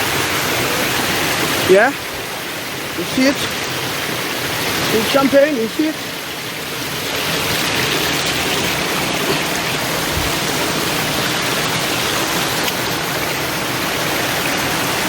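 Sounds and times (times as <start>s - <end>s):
water rushing over waterfall: 0.0s - 15.0s.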